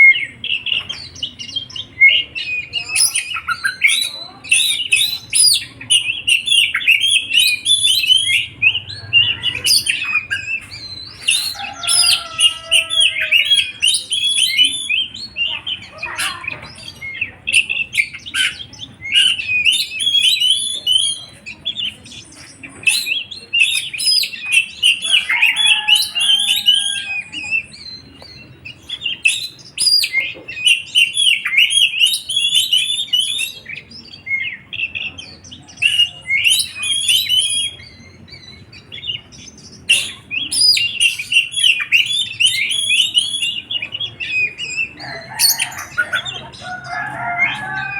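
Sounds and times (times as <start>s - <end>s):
songbird chirping and twittering: 0.0s - 47.9s.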